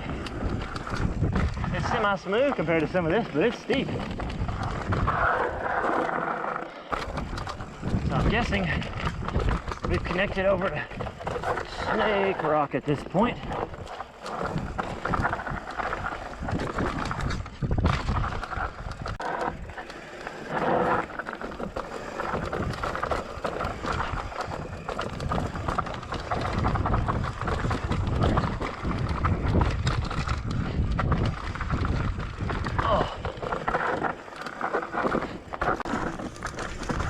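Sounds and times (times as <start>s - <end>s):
bike clattering over bumps: 0.0s - 5.2s, 6.8s - 37.0s
bike tyres crunching over dirt: 0.0s - 37.0s.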